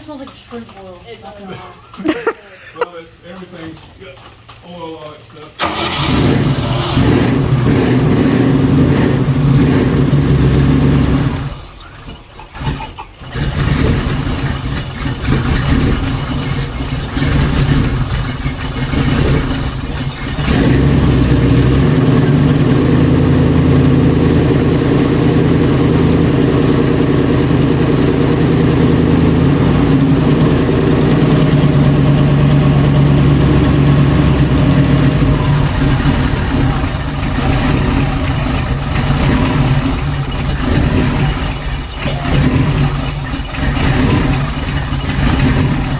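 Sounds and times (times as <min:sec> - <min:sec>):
car engine running: 0:05.6 - 0:45.9.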